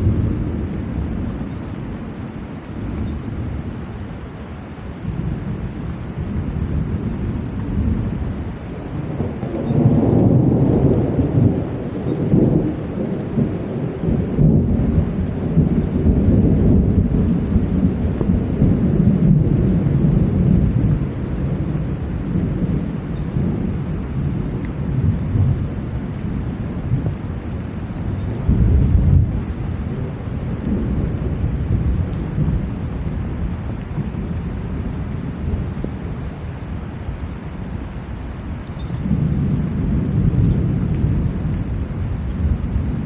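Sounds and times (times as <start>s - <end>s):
low roll of thunder: 0.0s - 4.3s, 4.9s - 43.0s
heavy rain pouring: 0.0s - 43.0s.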